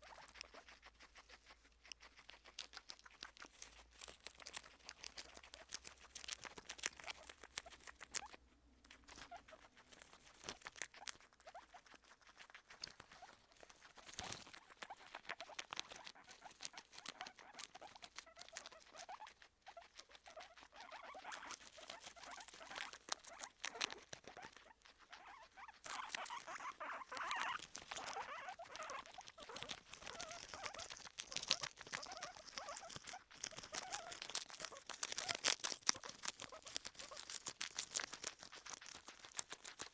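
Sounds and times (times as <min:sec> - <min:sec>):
guinea pigs chewing lettuce: 0:00.0 - 0:39.9.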